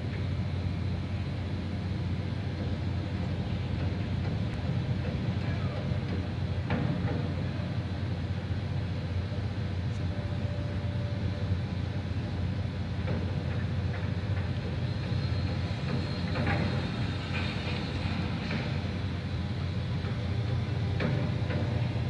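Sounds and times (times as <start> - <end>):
construction machinery rumble: 0.0 - 22.0.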